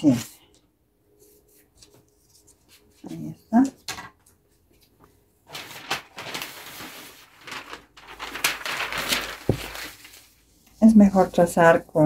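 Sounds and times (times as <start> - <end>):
paper sheet rustling: 1.2 - 3.9, 4.8 - 12.0.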